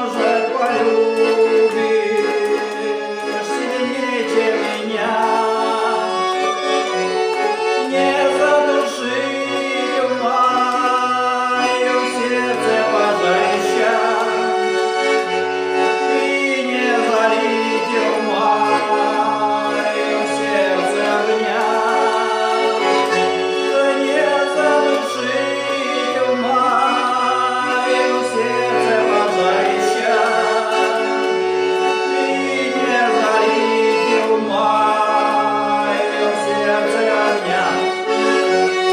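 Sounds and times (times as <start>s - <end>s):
accordion playing chords: 0.0s - 38.9s
person singing: 0.0s - 38.9s.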